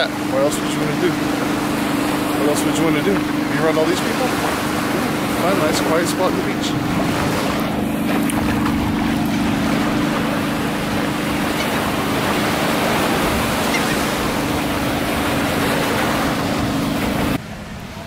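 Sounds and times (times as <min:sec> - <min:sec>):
low hum: 0:00.0 - 0:18.0
surf washing onto beach: 0:00.0 - 0:18.0.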